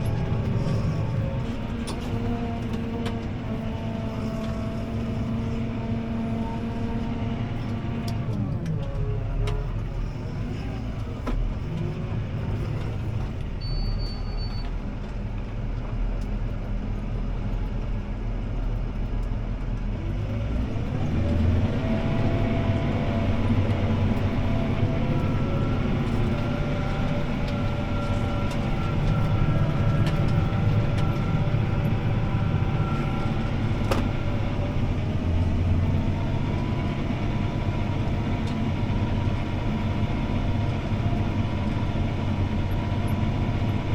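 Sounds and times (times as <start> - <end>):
tractor engine under load: 0.0 - 43.9.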